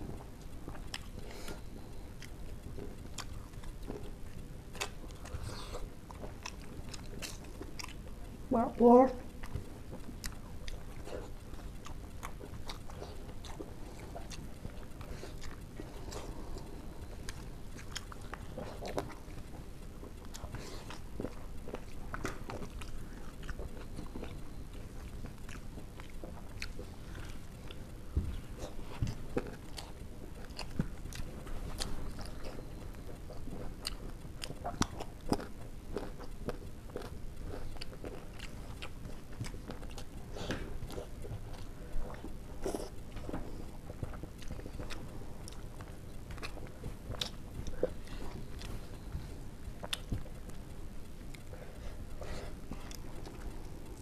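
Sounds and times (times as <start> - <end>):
people chewing: 0.0 - 8.6, 9.2 - 54.0.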